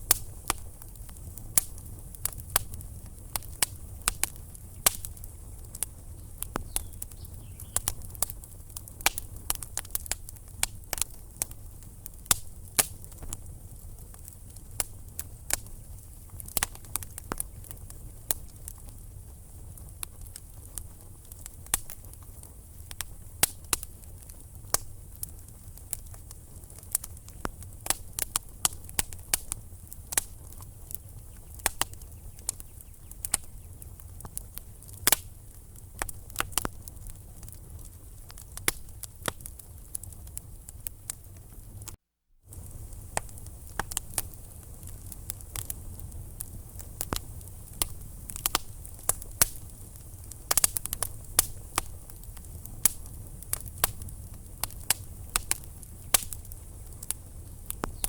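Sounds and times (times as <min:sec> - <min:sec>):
logs crackling in a fireplace: 0:00.0 - 0:58.0.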